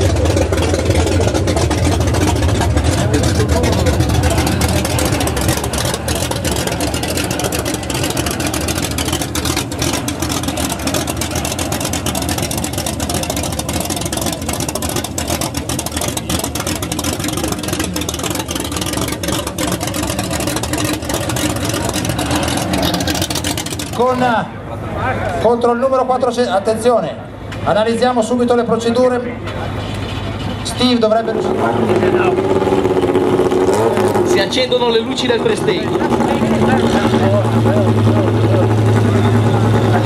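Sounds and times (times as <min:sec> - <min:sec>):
car engine idling loudly: 0:00.0 - 0:26.5, 0:28.3 - 0:40.0.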